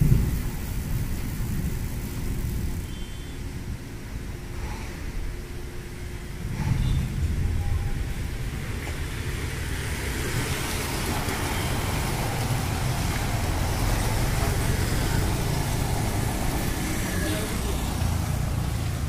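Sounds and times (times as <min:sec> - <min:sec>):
motorcycle and scooter engines: 0:00.0 - 0:19.0.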